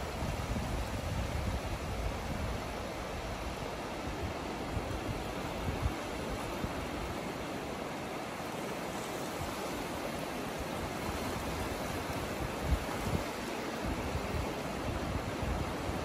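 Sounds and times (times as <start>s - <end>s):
small waves lapping on shore: 0.0s - 16.0s.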